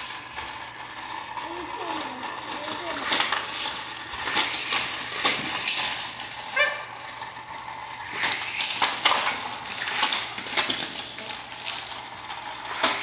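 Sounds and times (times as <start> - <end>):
toy cars clicking and clattering: 0.0 - 13.0.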